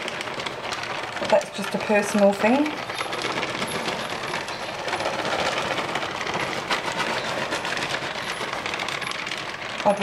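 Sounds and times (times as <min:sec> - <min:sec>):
plastic bag rustling: 0:00.0 - 0:10.0
shredded cheese pattering: 0:00.0 - 0:10.0.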